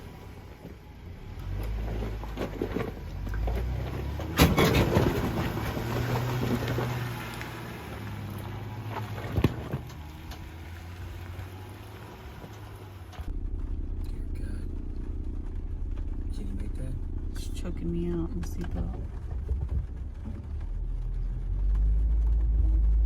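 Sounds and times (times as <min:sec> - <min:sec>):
off-road vehicle engine idling: 0:00.0 - 0:23.0.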